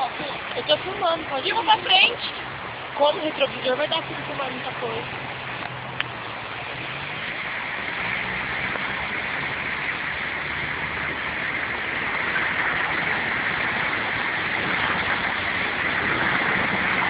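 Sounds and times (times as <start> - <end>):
heavy rain hissing: 0.0 - 17.0
rushing floodwater: 0.0 - 17.0.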